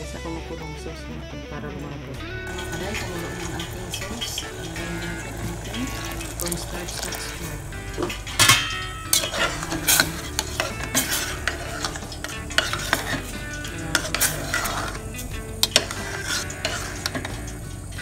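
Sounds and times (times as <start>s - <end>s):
sauce bubbling: 2.5s - 18.0s
utensil clinking against pot: 2.5s - 18.0s
utensil scraping metal pot: 2.5s - 18.0s.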